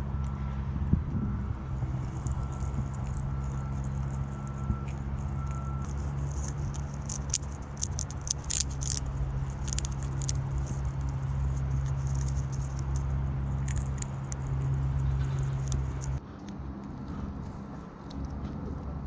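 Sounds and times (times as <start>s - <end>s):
steady low hum: 0.0s - 19.0s
animal crunching a hard snack: 2.1s - 18.8s.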